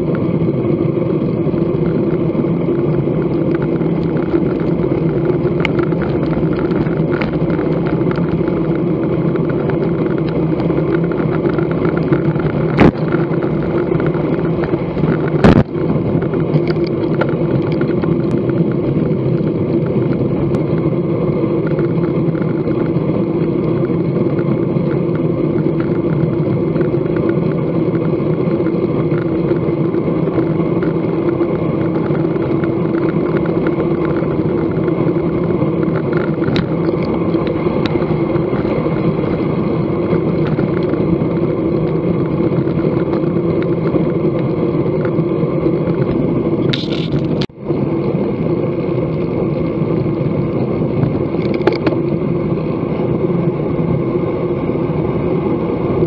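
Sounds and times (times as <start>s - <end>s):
bicycle tyre noise: 0.0s - 56.0s
wind noise: 0.0s - 56.0s.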